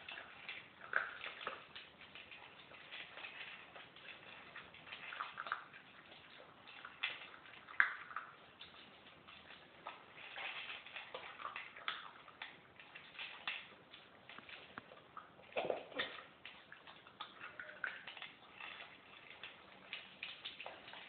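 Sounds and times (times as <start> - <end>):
puppies crunching kibble: 0.0 - 21.0.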